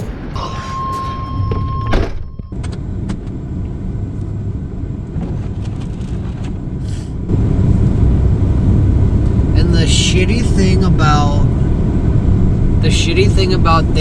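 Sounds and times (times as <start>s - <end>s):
engine and road rumble in cabin: 0.0s - 14.0s.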